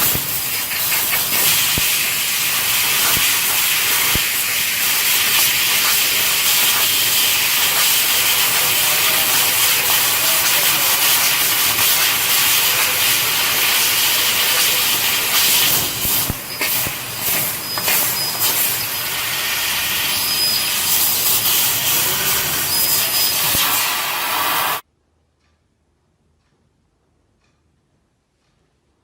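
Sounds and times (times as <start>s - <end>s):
laser cutter hissing: 0.0s - 24.8s.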